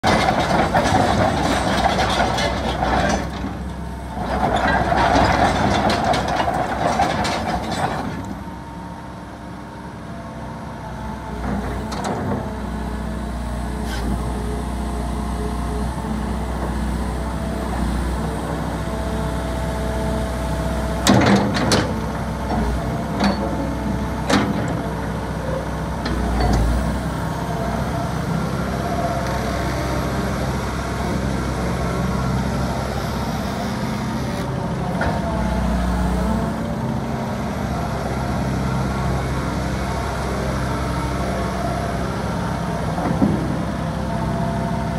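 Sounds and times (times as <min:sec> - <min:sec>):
excavator engine and hydraulics: 0:00.0 - 0:44.9.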